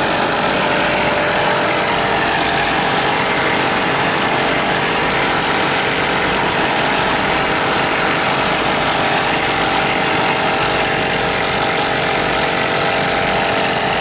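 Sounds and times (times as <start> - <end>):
machine humming steadily: 0.0 - 14.0.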